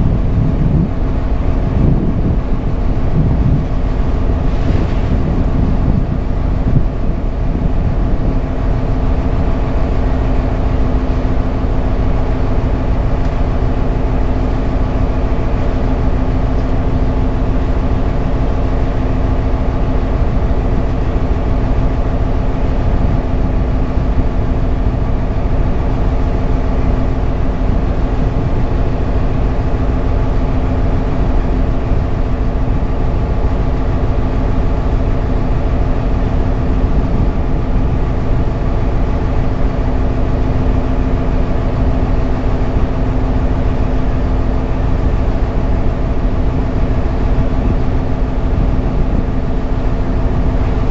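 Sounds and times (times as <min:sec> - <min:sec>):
boat engine droning: 0:00.0 - 0:50.9.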